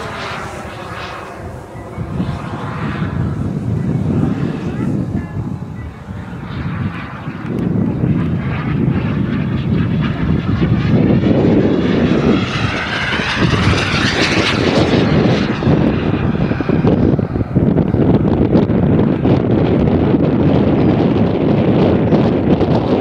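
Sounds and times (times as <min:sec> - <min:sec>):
jet turbine rushing: 0:00.0 - 0:23.0
jet whine sweeping in pitch: 0:00.0 - 0:23.0.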